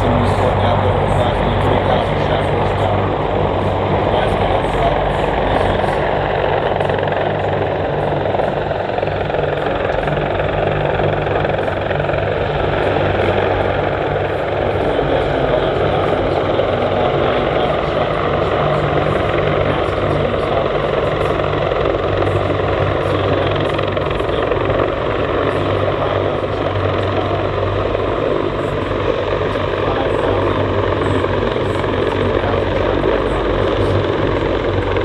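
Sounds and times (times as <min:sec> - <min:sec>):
helicopter roar: 0:00.0 - 0:35.0
low rotor throb: 0:00.0 - 0:35.0.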